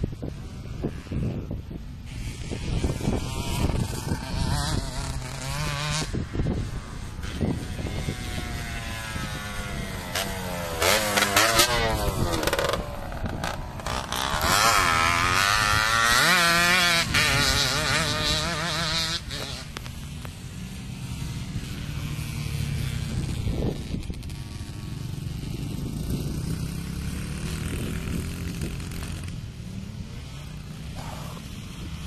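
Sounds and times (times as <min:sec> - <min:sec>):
trail bike engine revving: 0:00.0 - 0:32.0.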